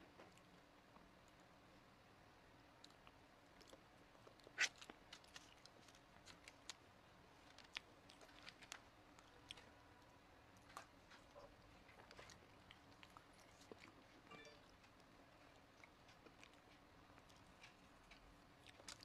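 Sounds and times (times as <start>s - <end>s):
mouth sounds of eating: 0.2s - 19.0s.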